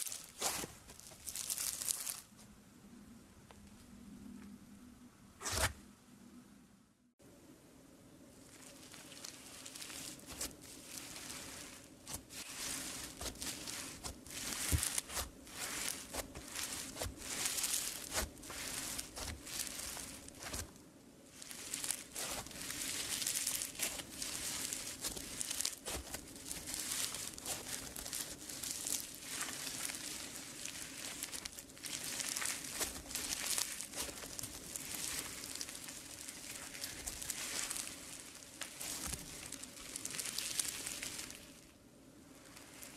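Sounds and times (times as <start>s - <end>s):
crunchy slime crackling: 0.0s - 2.3s, 8.5s - 41.7s, 42.4s - 42.9s.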